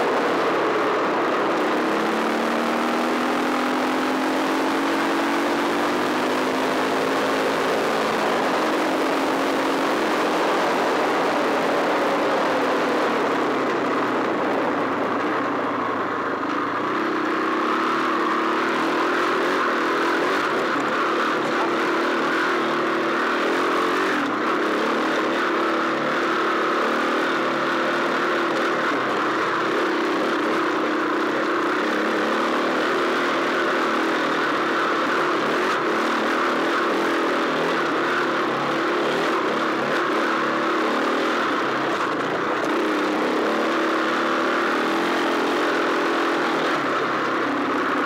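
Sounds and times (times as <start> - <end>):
dirt bike engine running hard: 0.0 - 48.0
steady rushing noise: 0.0 - 48.0.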